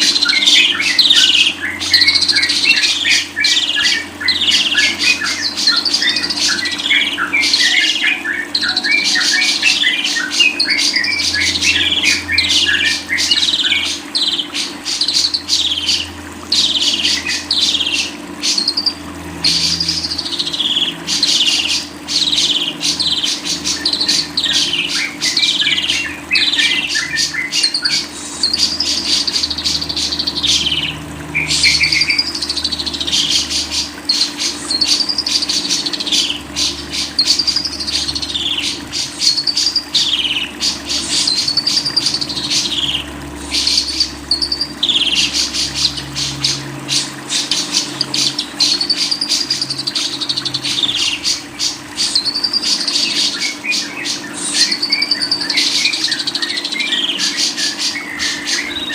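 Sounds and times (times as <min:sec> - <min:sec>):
songbird trilling and whistling: 0:00.0 - 0:58.9.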